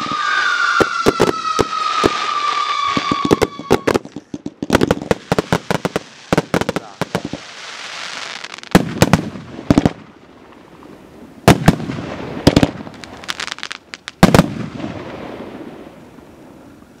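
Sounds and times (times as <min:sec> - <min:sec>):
crackling fireworks stars: 0:00.0 - 0:17.0.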